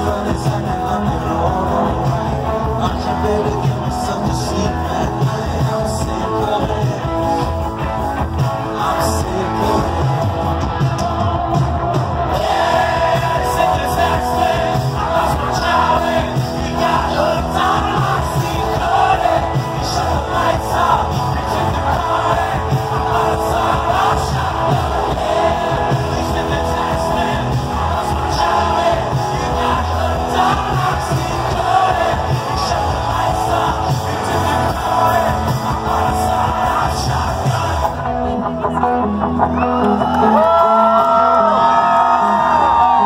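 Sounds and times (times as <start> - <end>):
man singing: 0.0 - 38.8
live rock band: 0.0 - 43.0.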